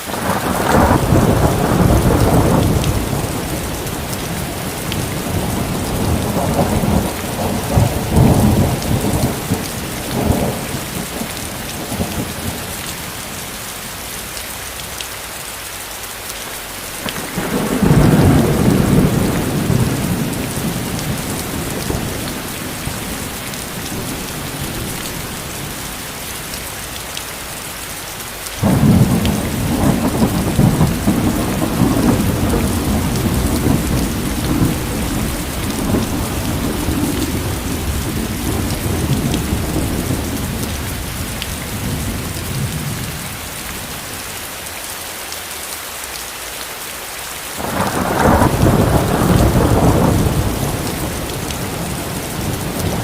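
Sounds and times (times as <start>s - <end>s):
steady rain falling: 0.0s - 53.0s
rolling thunder: 0.1s - 13.4s, 17.0s - 27.7s, 28.6s - 43.4s, 47.6s - 53.0s.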